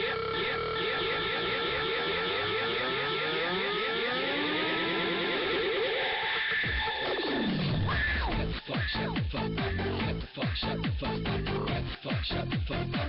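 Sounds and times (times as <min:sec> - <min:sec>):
electronic dance music synth: 0:00.0 - 0:13.0.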